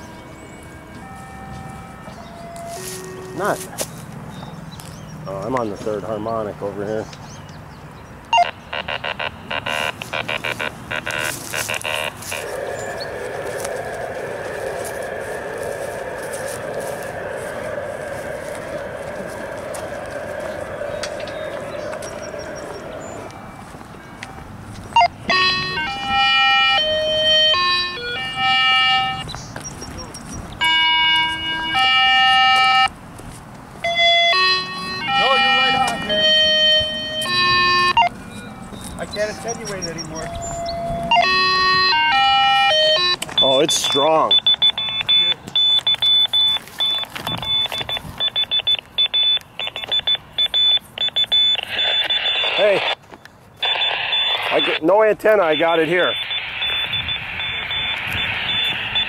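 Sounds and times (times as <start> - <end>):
electronic beeps changing pitch: 8.4 - 32.9, 33.8 - 52.8, 53.6 - 59.0.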